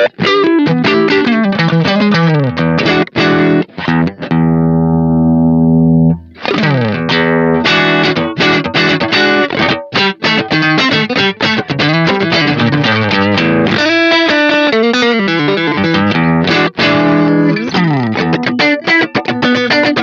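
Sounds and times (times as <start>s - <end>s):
fuzzed electric guitar: 0.0s - 20.0s.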